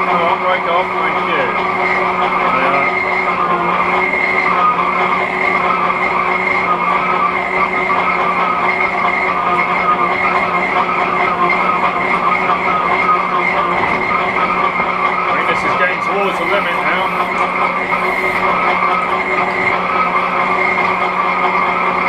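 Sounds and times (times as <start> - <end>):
machine whine under load: 0.0 - 22.0
lathe cut hissing: 0.3 - 22.0.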